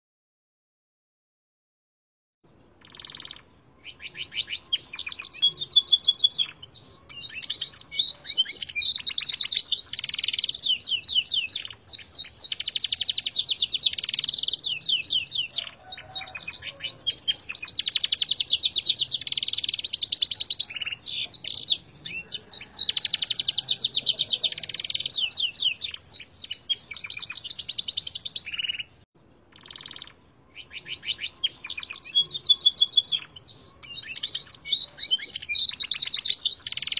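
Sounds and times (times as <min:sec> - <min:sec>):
canary singing trills and chirps: 0:02.5 - 0:36.9.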